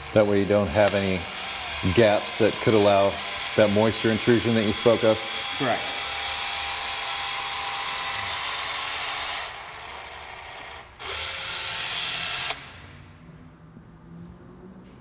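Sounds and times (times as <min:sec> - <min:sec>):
caulking gun motor running: 0:00.0 - 0:12.7.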